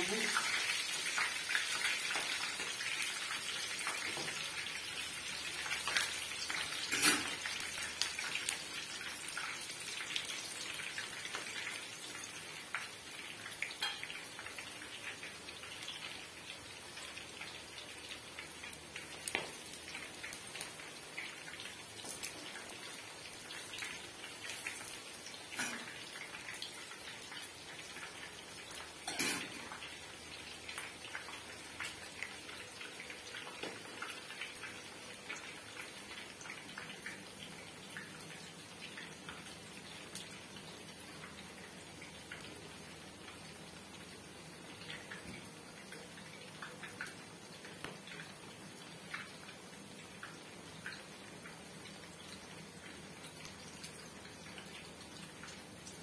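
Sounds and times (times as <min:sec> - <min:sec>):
vegetables sizzling in hot oil: 0:00.0 - 0:56.0.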